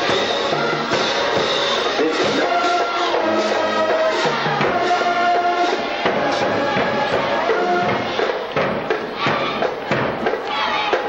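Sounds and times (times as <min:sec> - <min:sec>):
band music with held notes: 0:00.0 - 0:11.0
percussion beat: 0:00.0 - 0:11.0.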